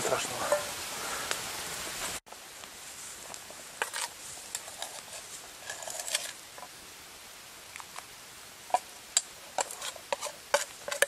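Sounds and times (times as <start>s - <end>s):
even hiss: 0.0s - 11.0s
faint background noise: 0.0s - 11.0s.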